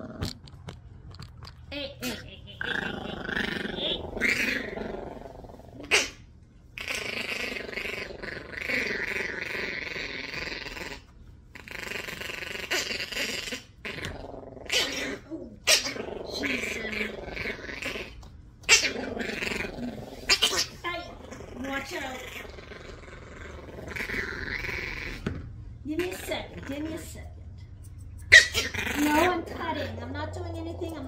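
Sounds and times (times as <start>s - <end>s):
puppy growling: 0.0s - 31.0s.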